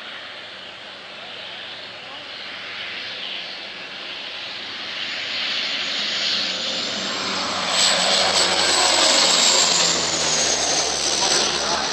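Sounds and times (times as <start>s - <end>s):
airplane engines rushing: 0.0s - 11.9s.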